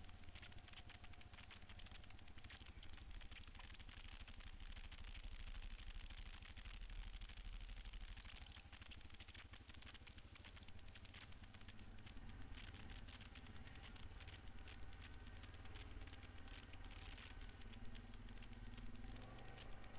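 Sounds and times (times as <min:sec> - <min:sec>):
quad bike engine running: 0:00.0 - 0:19.9.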